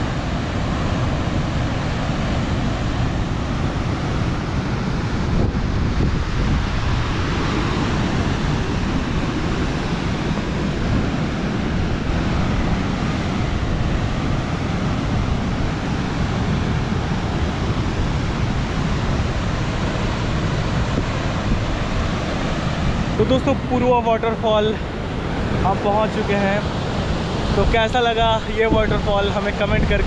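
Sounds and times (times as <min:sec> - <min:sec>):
waterfall rushing: 0:00.0 - 0:30.0
wind buffeting microphone: 0:00.0 - 0:30.0.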